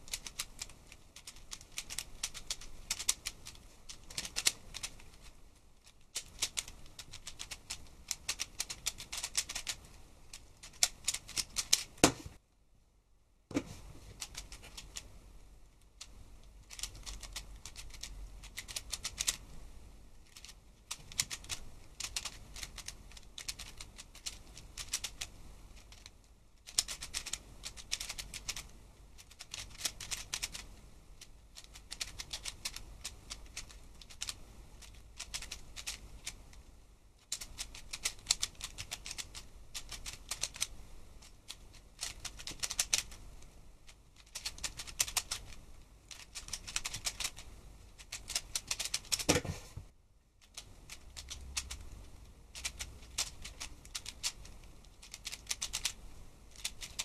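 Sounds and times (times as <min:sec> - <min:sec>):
puzzle cube plastic clacking: 0:00.0 - 0:12.2, 0:14.2 - 0:15.1, 0:16.0 - 0:19.4, 0:20.2 - 0:36.4, 0:37.2 - 0:43.2, 0:43.9 - 0:49.5, 0:50.4 - 0:51.8, 0:52.5 - 0:57.0.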